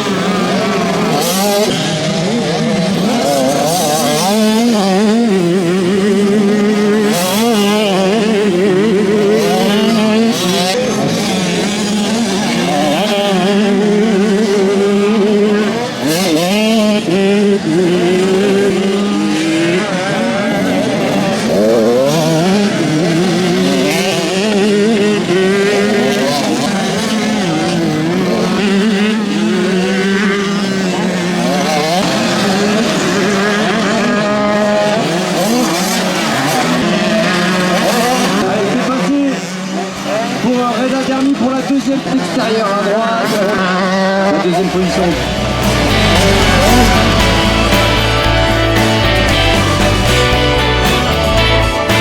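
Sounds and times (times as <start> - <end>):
motocross bike engines revving: 0.0 - 52.0.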